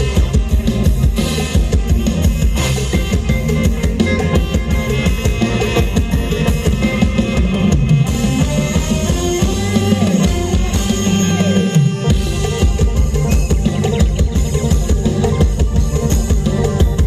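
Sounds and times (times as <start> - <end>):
loud music with drums and bass: 0.0 - 17.0.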